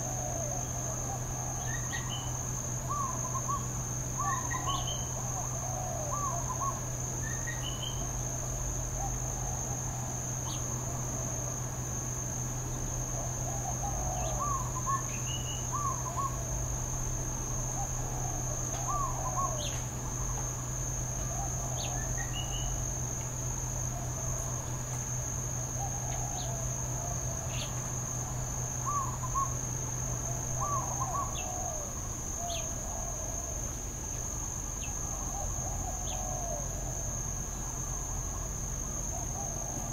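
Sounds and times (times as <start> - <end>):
insect chorus: 0.0 - 39.9
low steady hum: 0.0 - 39.9.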